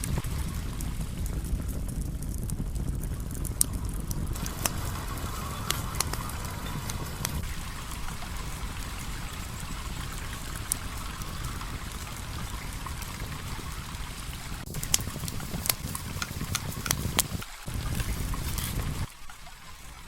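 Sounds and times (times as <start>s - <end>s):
campfire crackling: 0.0s - 20.0s
stream flowing: 3.5s - 20.0s.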